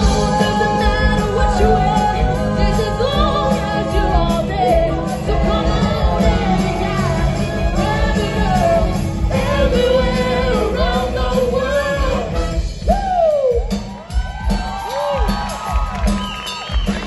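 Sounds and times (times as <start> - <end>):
soul band playing: 0.0 - 17.0.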